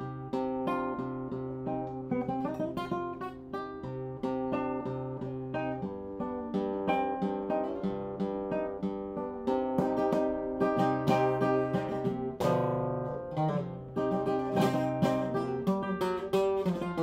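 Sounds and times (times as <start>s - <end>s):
guitar plucked notes: 0.0s - 17.0s.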